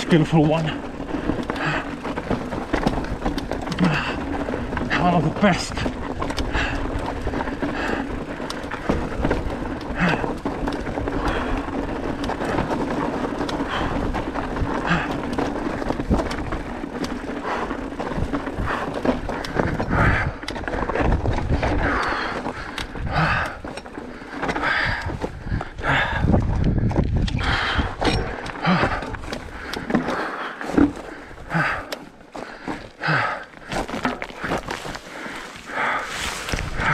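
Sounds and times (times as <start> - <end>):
bike rattling: 0.0 - 36.9
continuous rumble: 0.0 - 36.9
tyres crunching over stones: 0.0 - 36.9.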